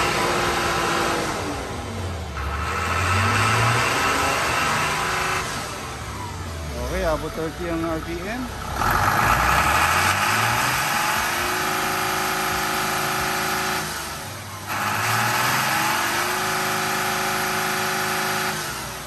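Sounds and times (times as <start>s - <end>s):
truck diesel engine revving: 0.0s - 19.0s.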